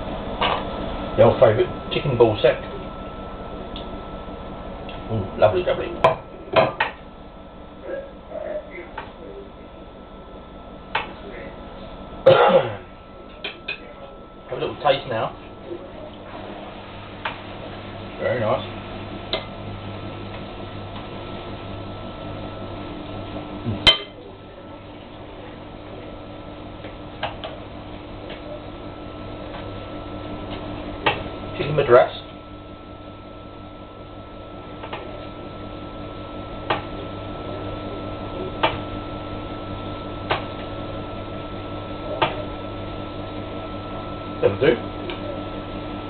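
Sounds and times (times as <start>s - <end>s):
low room tone hum: 0.0s - 46.0s.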